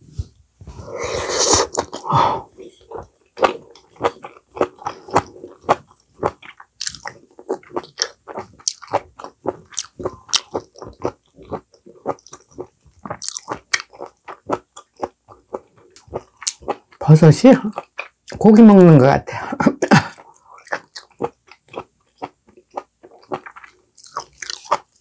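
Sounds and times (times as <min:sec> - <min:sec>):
person chewing food: 0:00.1 - 0:18.4, 0:19.9 - 0:25.0.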